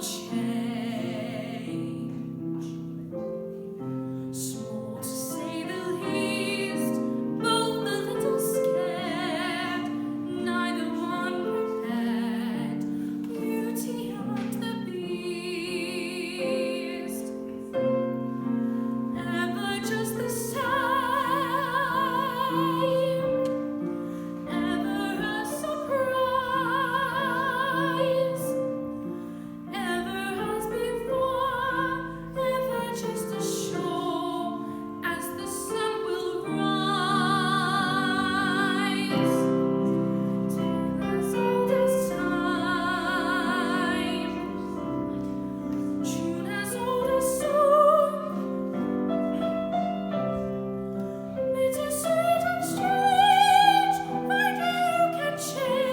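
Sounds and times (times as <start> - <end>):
piano accompaniment: 0.0 - 55.9.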